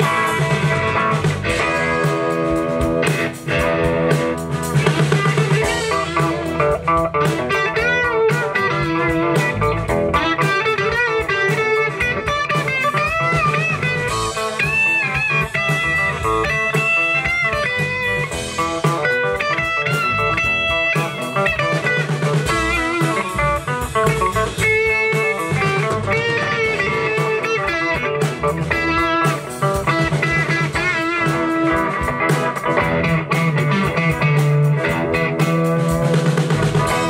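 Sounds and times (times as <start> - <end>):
lead guitar bending notes: 0.0 - 37.0
rock band playing: 0.0 - 37.0.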